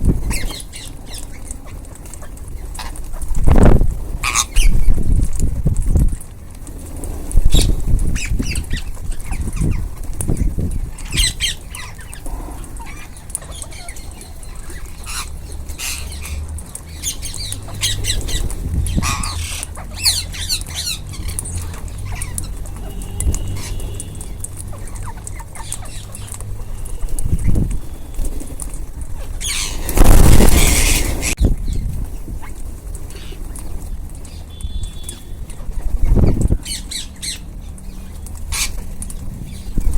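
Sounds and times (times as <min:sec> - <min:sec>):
parakeets squawking: 0:00.2 - 0:05.1, 0:07.5 - 0:39.9.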